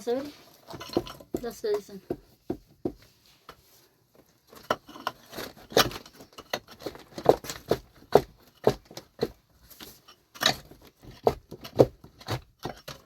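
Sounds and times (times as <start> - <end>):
hard objects knocking and clattering: 0.0 - 3.1, 4.5 - 13.0.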